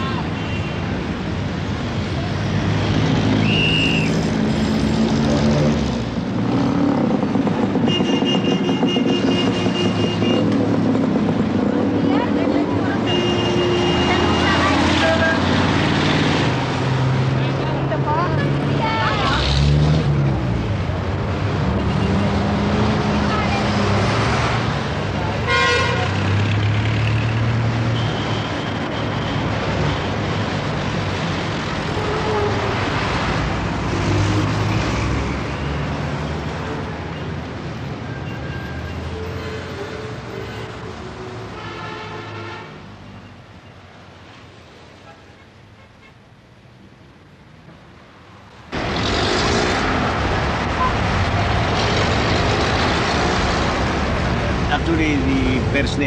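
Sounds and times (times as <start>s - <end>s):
road traffic: 0.0s - 56.0s
vehicles passing: 0.0s - 56.0s.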